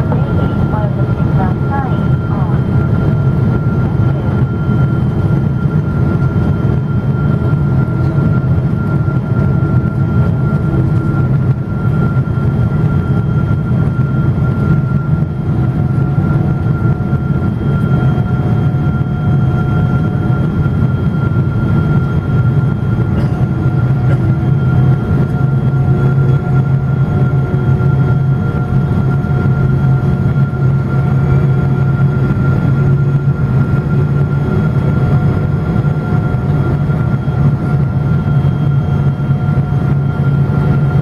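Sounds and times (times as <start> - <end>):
airliner cabin engine drone: 0.0 - 41.0
thin steady whine: 0.0 - 41.0.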